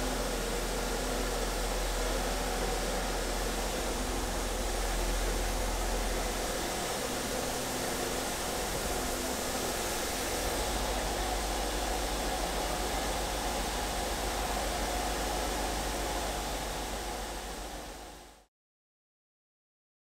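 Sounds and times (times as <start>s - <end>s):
steam hissing from locomotive: 0.0s - 18.2s.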